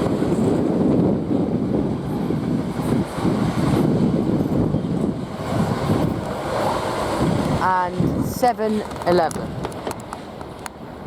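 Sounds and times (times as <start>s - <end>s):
train wheels rumbling on rail: 0.0s - 11.0s
wind buffeting microphone: 0.0s - 11.0s.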